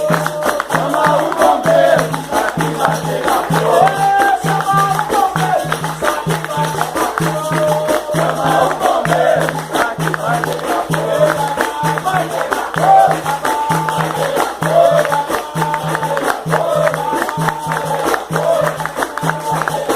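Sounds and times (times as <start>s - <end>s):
percussion steady beat: 0.0s - 19.9s
voices singing: 0.0s - 19.9s.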